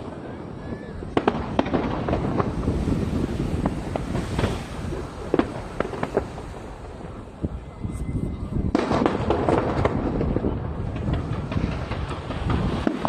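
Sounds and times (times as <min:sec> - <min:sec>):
crackling hiss: 0:00.0 - 0:13.0
fireworks bangs: 0:00.0 - 0:13.0.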